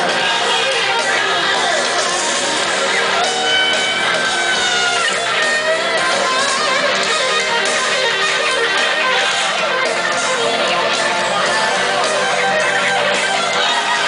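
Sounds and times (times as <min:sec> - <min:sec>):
distorted electric guitar lead: 0:00.0 - 0:14.0
heavy metal band playing live: 0:00.0 - 0:14.0.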